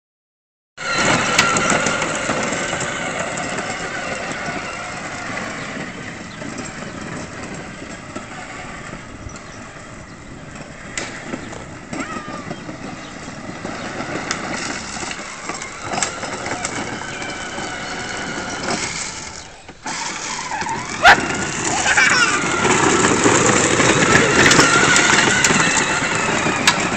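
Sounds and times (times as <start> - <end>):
toy electric motor whine: 0.8 - 9.9, 11.9 - 26.9.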